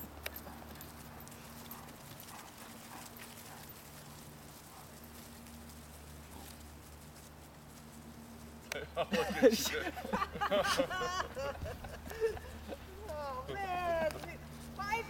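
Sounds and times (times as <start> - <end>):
paws scampering over dry leaves: 0.0 - 9.6, 11.6 - 15.0
steady low hum: 0.0 - 15.0.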